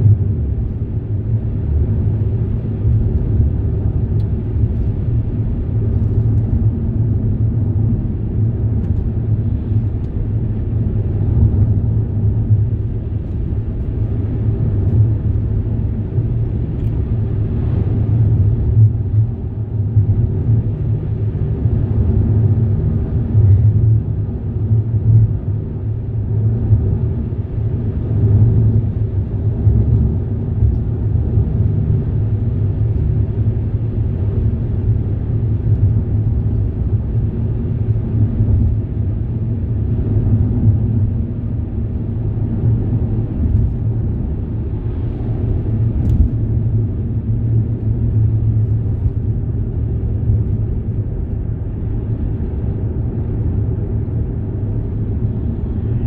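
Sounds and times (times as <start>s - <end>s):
vehicle rumbling: 0.0s - 56.0s.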